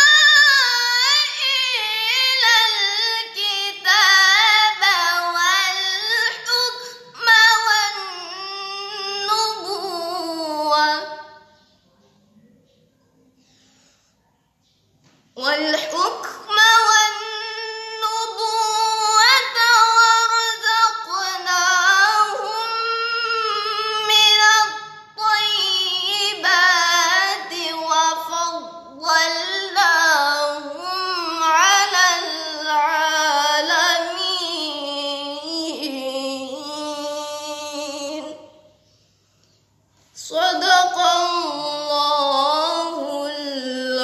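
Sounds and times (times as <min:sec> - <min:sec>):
girl reciting melodically: 0:00.0 - 0:11.8, 0:13.3 - 0:39.4, 0:40.1 - 0:44.0.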